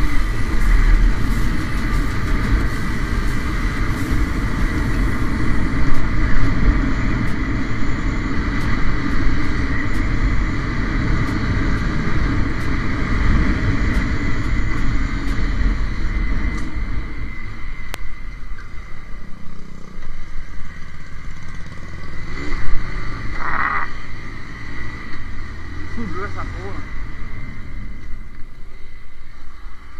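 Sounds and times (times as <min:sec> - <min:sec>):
motorcycle engine running: 0:00.0 - 0:29.9
wind rumble on microphone: 0:00.0 - 0:29.9.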